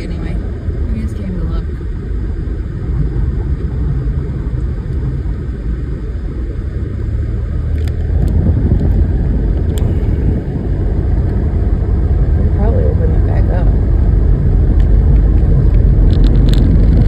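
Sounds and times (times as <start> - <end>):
road and engine rumble in car: 0.0 - 17.0.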